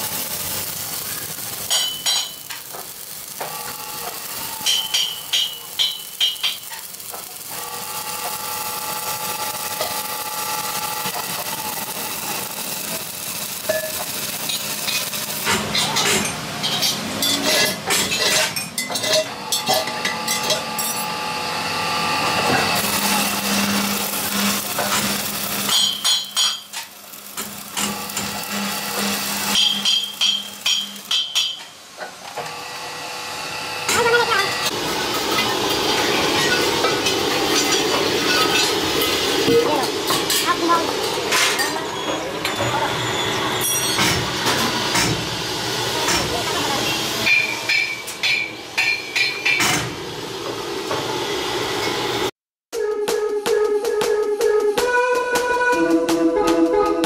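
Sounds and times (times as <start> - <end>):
welding arc crackling: 0.0 - 52.3.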